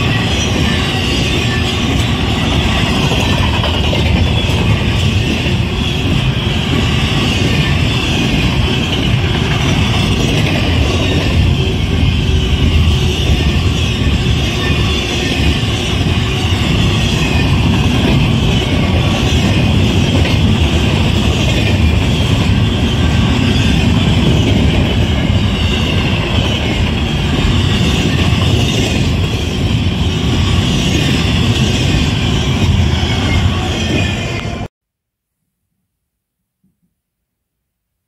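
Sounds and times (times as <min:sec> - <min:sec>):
train wheels rushing on rail: 0:00.0 - 0:34.7.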